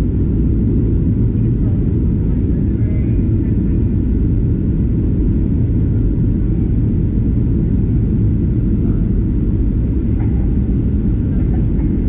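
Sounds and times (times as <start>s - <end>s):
airplane engines rumbling in cabin: 0.0s - 12.0s.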